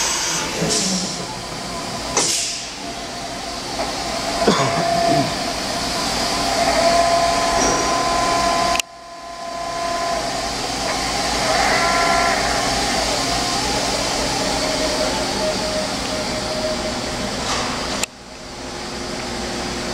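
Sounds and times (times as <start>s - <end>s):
machine humming and whining: 0.0s - 19.9s.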